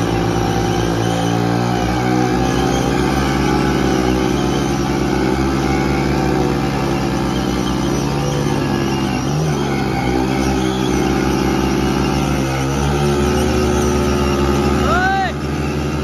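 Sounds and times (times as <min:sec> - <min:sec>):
motorcycle engines at high revs: 0:00.0 - 0:16.0.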